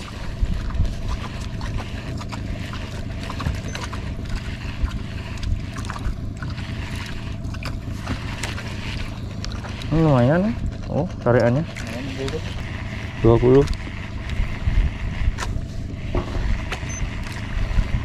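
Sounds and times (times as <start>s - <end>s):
boat engine humming: 0.0s - 18.0s
water noise: 0.0s - 18.0s
wind: 0.0s - 18.0s.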